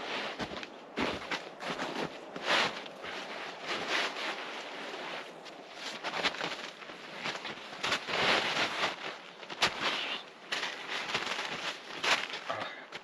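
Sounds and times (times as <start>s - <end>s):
crunching and rustling: 0.0s - 13.0s.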